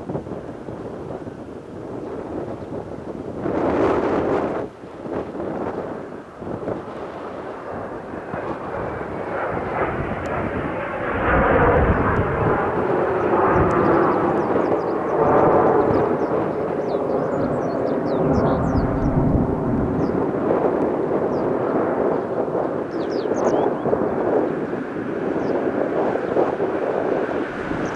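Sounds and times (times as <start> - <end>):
jet aircraft flying by: 0.0 - 27.9.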